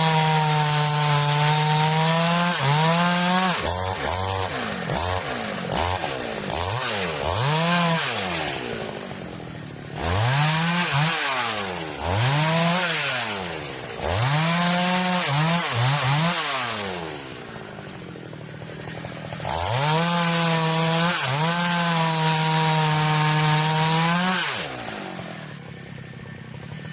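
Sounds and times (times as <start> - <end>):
chainsaw revving and sawing wood: 0.0 - 26.9.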